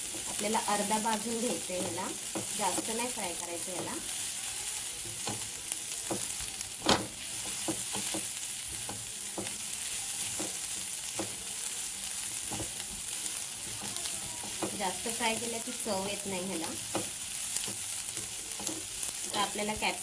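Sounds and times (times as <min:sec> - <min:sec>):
utensil clicking against pan: 0:00.0 - 0:20.0
vegetables sizzling in a pan: 0:00.0 - 0:20.0.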